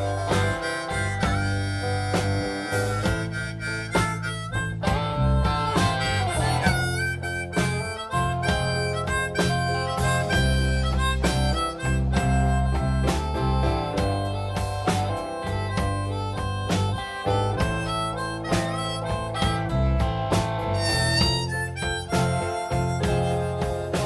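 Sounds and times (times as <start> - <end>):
bass line: 0.0 - 24.0
guitar: 0.0 - 24.0
harmonica solo: 0.0 - 24.0.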